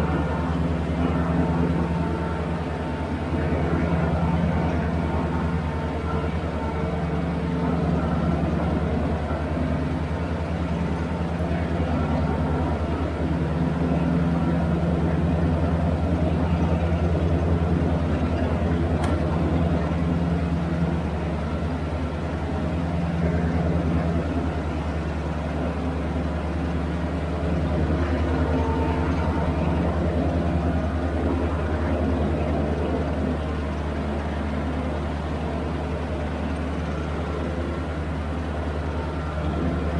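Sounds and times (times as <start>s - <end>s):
ride-on mower diesel engine: 0.0s - 39.9s.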